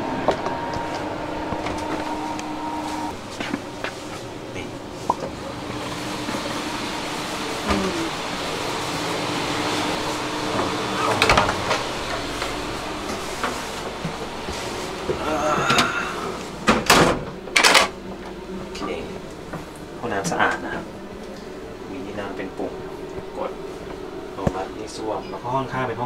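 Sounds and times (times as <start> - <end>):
steady hum: 0.0 - 26.0
train carriage rumble: 0.0 - 26.0.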